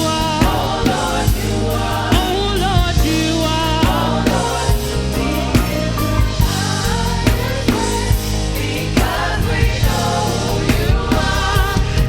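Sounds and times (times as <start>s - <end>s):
bass and keyboard chords: 0.0s - 12.0s
drum kit beat: 0.0s - 12.0s.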